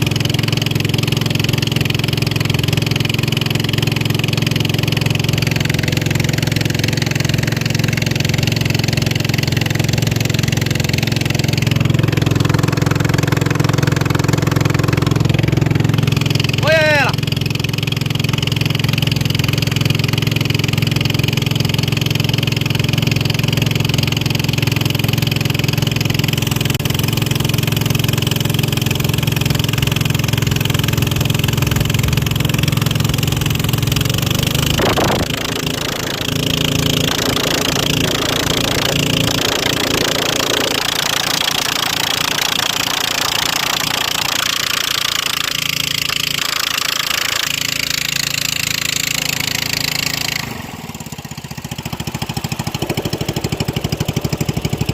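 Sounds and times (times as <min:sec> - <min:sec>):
racing boat engine running: 0:00.0 - 0:54.9.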